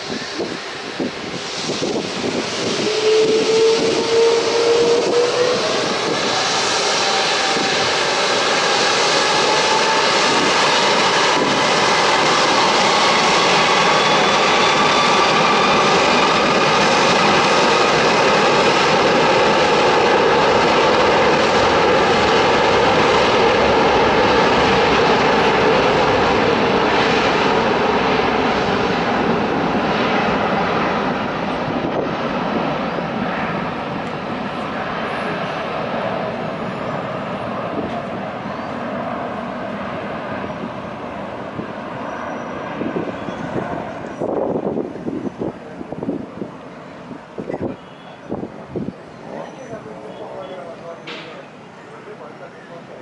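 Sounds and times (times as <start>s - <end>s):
jet engine roar with whine: 0.0s - 53.0s.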